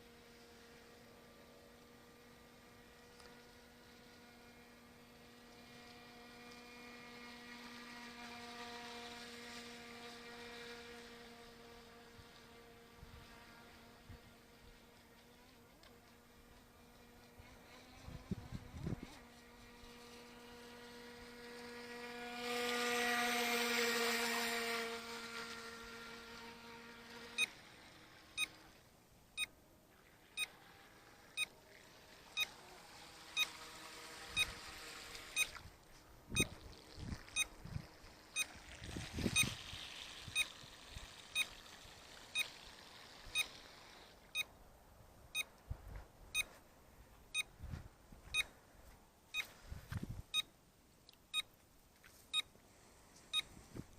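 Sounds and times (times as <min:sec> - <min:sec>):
electric motor buzzing whine: 0:00.0 - 0:44.7.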